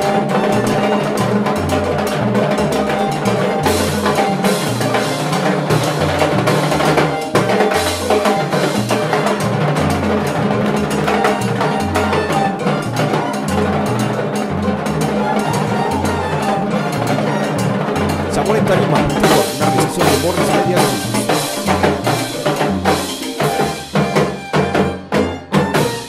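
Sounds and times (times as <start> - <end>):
cymbals: 0.0 - 26.0
salsa bass line: 0.0 - 26.0.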